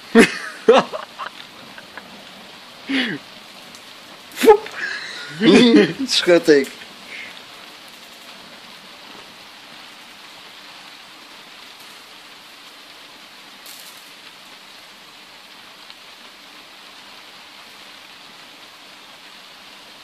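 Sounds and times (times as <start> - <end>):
fire burning and crackling: 0.0 - 20.0
rain falling: 0.0 - 20.0.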